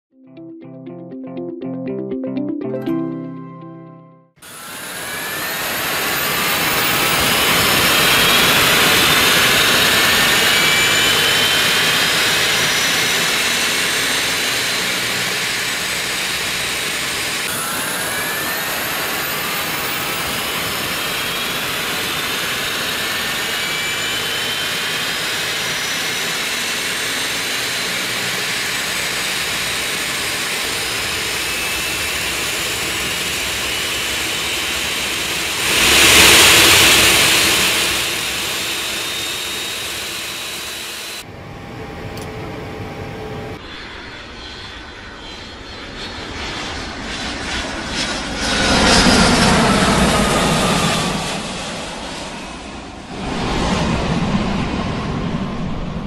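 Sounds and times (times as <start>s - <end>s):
high rising engine whine: 4.4s - 56.0s
jet engines at takeoff: 4.4s - 56.0s.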